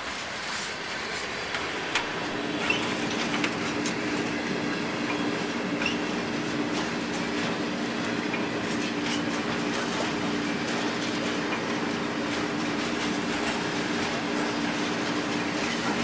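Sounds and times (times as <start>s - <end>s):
train wheels clicking on rails: 0.0s - 16.0s.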